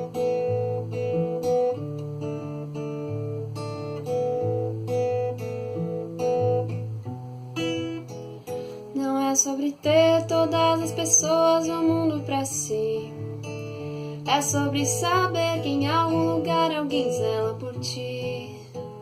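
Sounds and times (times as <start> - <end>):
acoustic guitar picked chords: 0.0 - 19.0.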